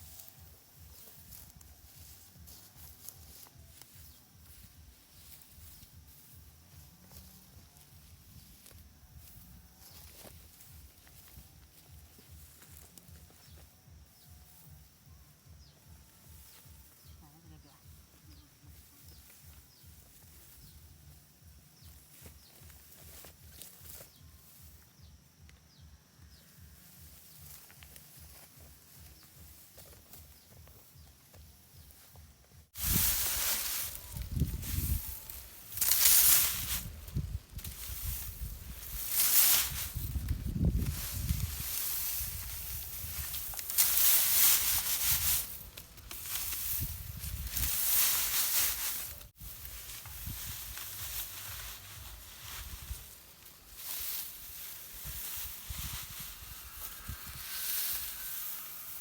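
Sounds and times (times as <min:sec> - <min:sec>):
dry rice plants rustling: 0:00.0 - 0:59.0.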